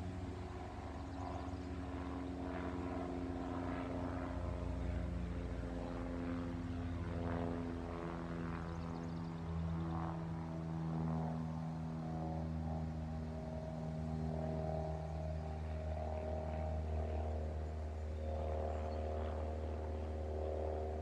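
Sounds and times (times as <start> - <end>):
propeller plane flying overhead: 0.0 - 21.0.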